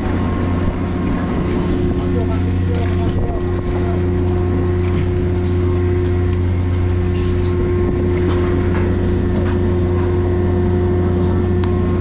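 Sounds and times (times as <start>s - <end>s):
boat engine droning: 0.0s - 12.0s
water rushing along hull: 0.0s - 12.0s.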